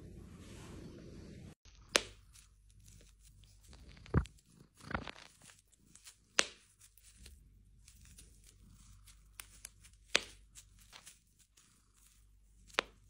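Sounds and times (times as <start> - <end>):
bubble wrap popping: 1.8 - 13.0.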